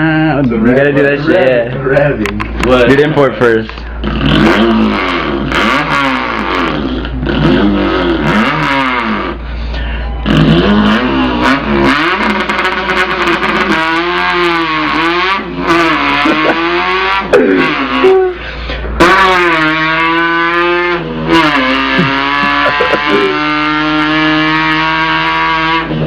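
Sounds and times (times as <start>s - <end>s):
man imitating car engine: 0.0s - 26.0s.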